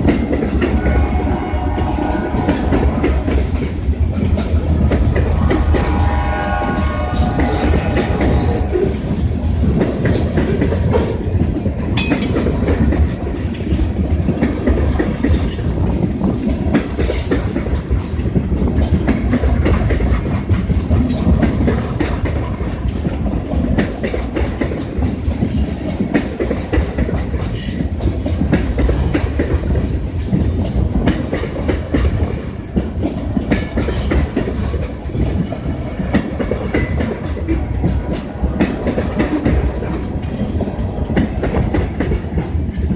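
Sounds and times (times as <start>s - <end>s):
train rumble: 0.0s - 42.9s
train wheels clicking on rails: 0.0s - 42.9s.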